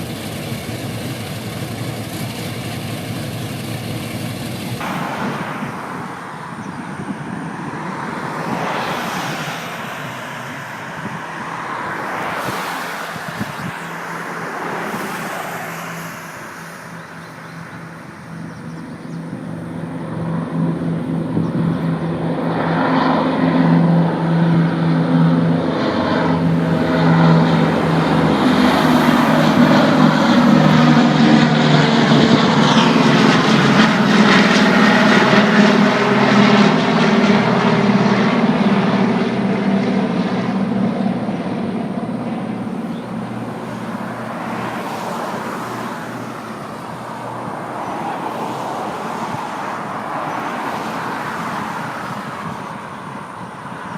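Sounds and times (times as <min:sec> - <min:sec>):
propeller aircraft engines droning: 0:00.0 - 0:53.9.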